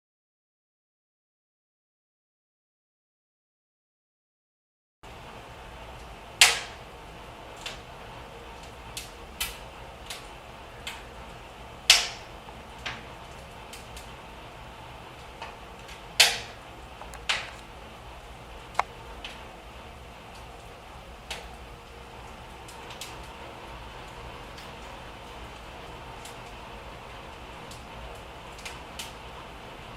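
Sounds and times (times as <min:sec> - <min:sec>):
wood fire crackling and popping: 0:05.1 - 0:29.9.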